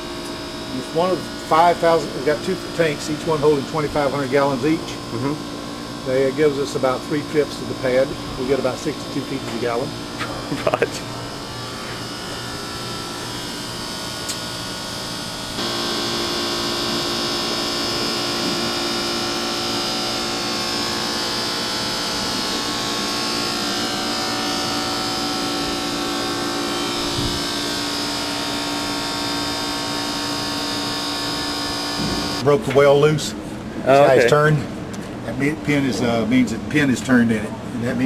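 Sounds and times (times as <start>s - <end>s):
machinery droning hum: 0.0s - 38.0s.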